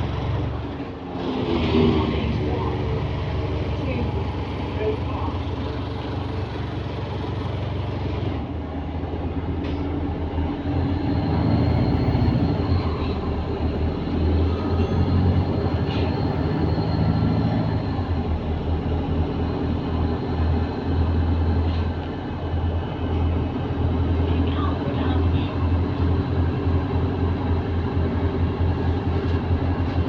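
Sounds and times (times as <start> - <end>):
bus engine hum from inside: 0.0 - 30.0.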